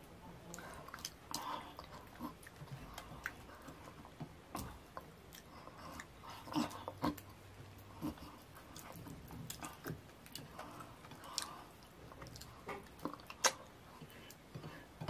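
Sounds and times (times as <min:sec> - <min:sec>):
wet chewing and lip smacking: 0:00.4 - 0:15.0.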